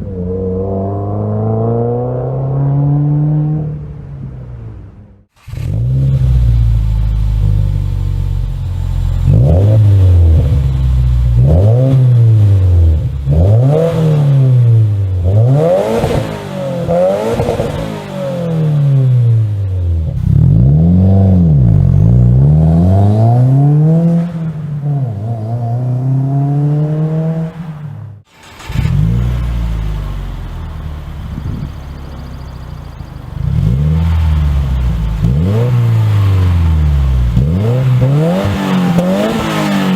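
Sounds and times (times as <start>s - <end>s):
car engine revving: 0.0s - 4.2s, 5.2s - 39.9s.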